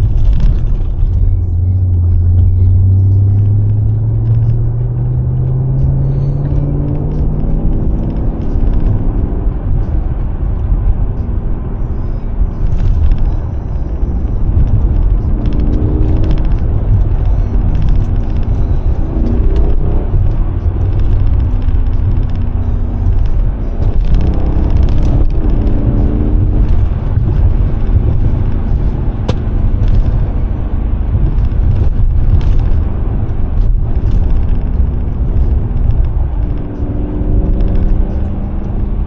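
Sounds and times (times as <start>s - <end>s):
car engine under load: 0.0s - 39.0s.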